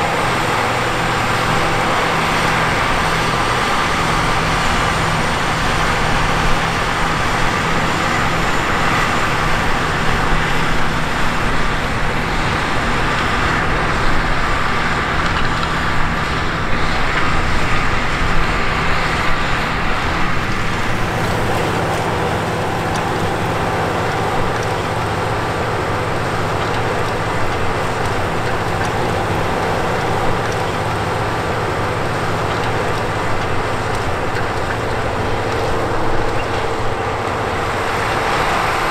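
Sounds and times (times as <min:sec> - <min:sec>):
diesel engine under heavy load: 0:00.0 - 0:38.9.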